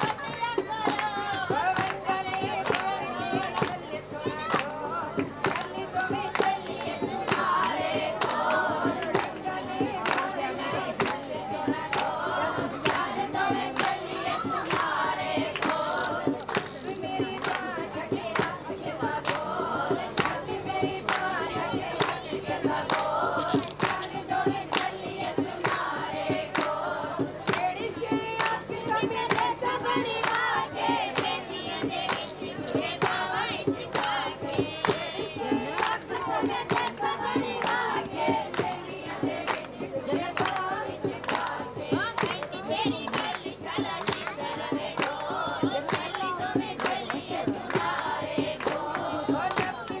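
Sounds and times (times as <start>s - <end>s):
hand clapping: 0.0s - 50.0s
women singing together: 0.0s - 50.0s.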